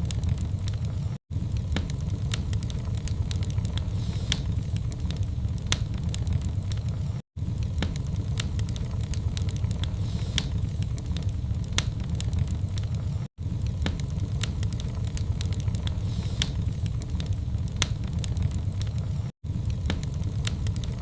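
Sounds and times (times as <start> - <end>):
fire crackling and popping: 0.0 - 21.0
low rumble of flame: 0.0 - 21.0.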